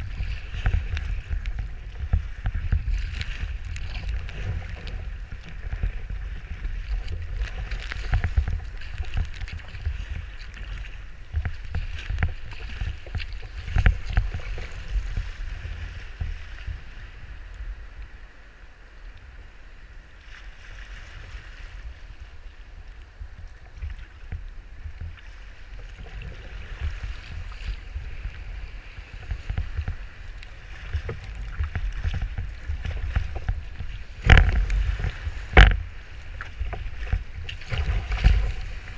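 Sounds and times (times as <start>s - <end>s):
wind buffeting microphone: 0.0s - 18.3s, 20.6s - 38.9s
water slapping a kayak hull: 0.0s - 38.9s
wave splashing over bow: 0.0s - 38.9s.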